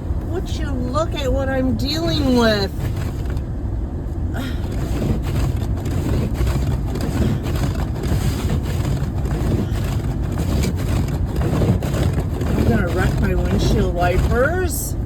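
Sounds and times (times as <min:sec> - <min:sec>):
vehicle ploughing through snow: 0:01.2 - 0:03.6, 0:04.4 - 0:15.0.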